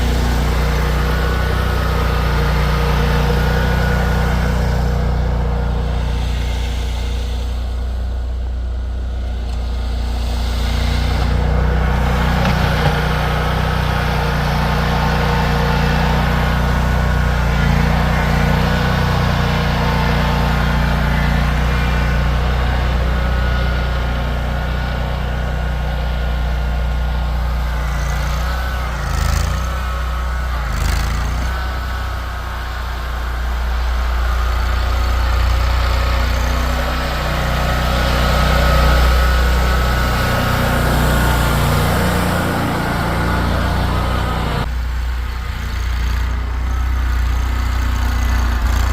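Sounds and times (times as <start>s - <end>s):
vehicle engine running under load: 0.0s - 48.9s.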